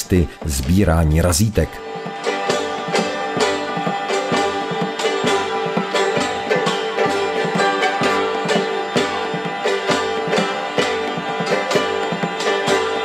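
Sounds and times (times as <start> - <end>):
plucked strings: 1.8 - 13.0.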